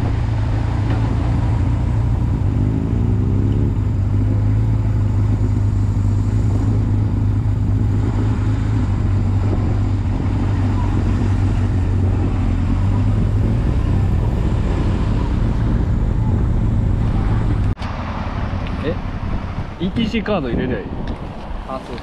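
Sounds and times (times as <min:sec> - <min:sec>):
motorcycle engine running: 0:00.0 - 0:17.8
wind and road noise: 0:00.0 - 0:22.0.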